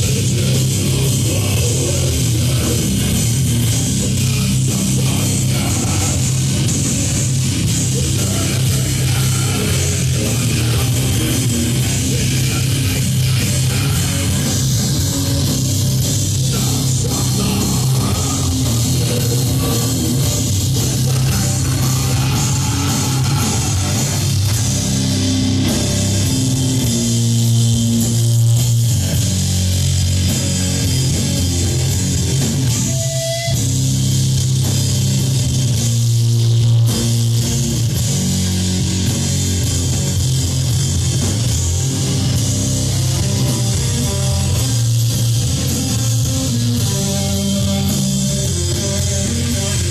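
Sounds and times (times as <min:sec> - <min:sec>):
bass guitar: 0:00.0 - 0:49.9
distorted electric guitar: 0:00.0 - 0:49.9
drum kit: 0:00.0 - 0:49.9.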